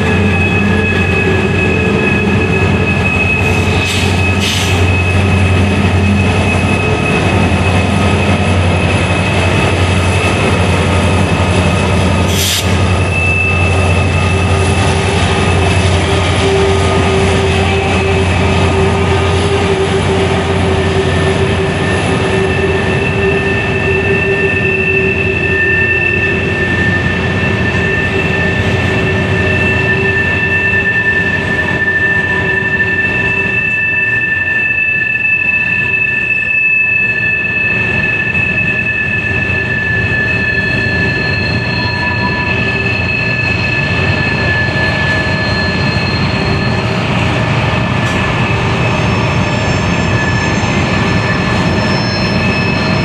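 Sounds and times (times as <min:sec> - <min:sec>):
diesel locomotive drone: 0:00.0 - 0:53.0
steel wheels rumbling on rail: 0:00.0 - 0:53.0
wheel flanges squealing: 0:00.0 - 0:53.0.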